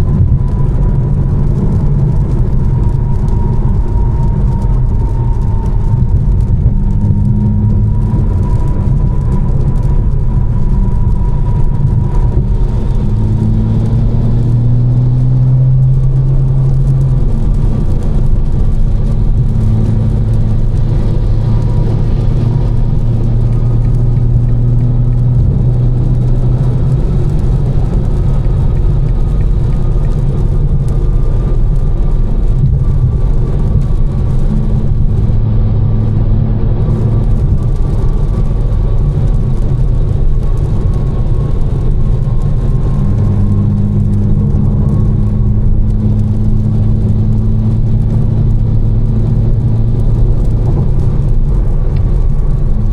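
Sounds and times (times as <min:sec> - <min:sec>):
tyres hissing on wet road: 0:00.0 - 0:36.1, 0:36.8 - 0:52.9
car engine drone: 0:00.0 - 0:52.9.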